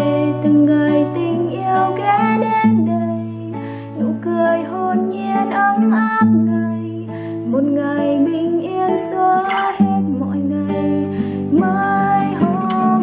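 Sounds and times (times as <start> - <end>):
classical guitar fingerpicking: 0.0 - 13.0.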